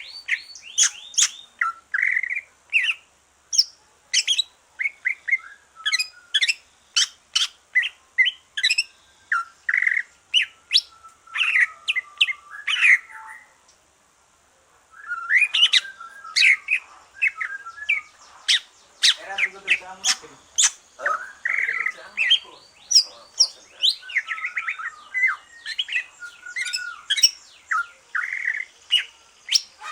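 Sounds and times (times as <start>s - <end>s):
bird singing chirps and trills: 0.0s - 13.6s, 14.9s - 29.9s.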